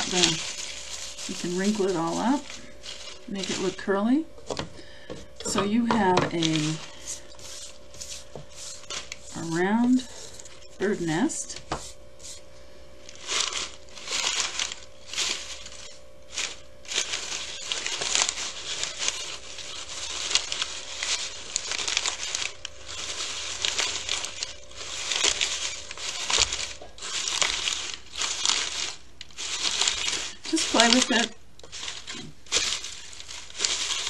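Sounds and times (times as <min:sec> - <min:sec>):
paper crumpling by hand: 0:00.0 - 0:03.9, 0:06.2 - 0:34.0.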